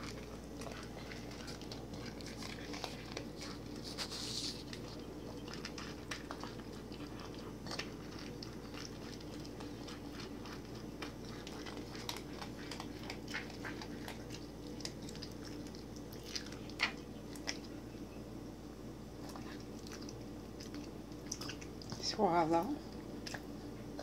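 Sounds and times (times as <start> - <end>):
dog crunching dry kibble: 0.0 - 17.9, 19.2 - 22.2
steady low hum: 0.0 - 24.0.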